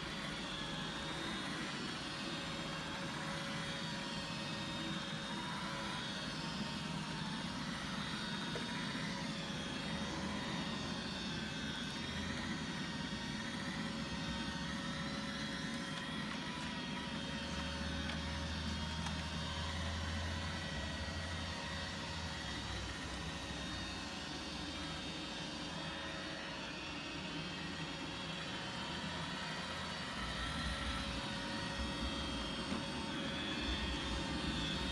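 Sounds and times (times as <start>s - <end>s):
robot vacuum motor hum and whine: 0.0s - 34.9s.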